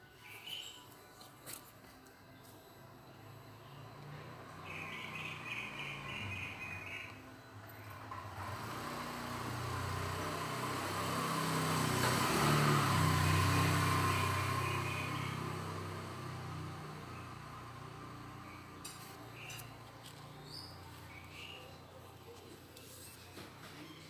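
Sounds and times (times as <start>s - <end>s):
vehicle passing by: 3.1s - 22.4s.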